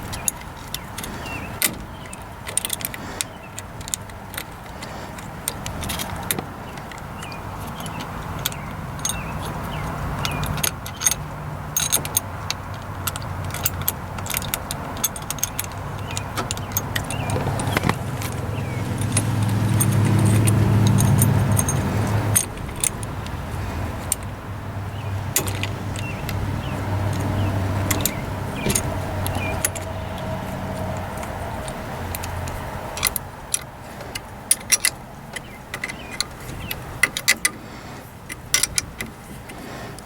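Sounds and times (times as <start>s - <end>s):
small metal parts clinking: 0.0s - 37.6s, 38.2s - 40.0s.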